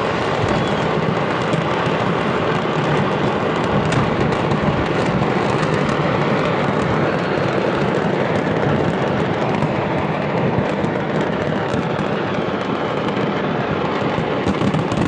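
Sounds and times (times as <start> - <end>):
fireworks rumbling and crackling: 0.0 - 15.0
sharp fireworks pops: 0.0 - 15.0.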